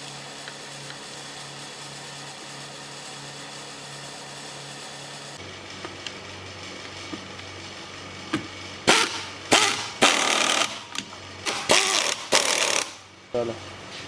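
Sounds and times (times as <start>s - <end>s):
power tool running in bursts: 0.0s - 13.5s
steady low hum: 0.0s - 14.0s.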